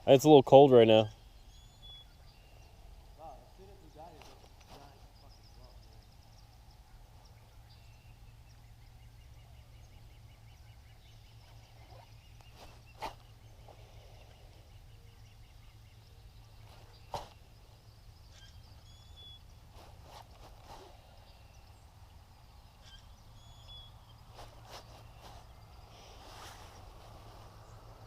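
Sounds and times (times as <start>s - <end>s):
birdsong trills: 0.0s - 28.0s.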